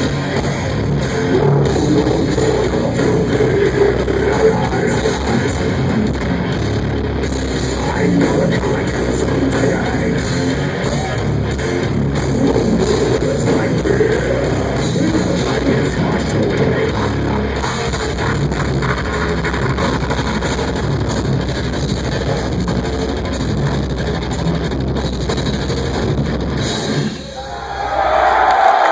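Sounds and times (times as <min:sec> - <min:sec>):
death metal band playing live: 0:00.0 - 0:28.4.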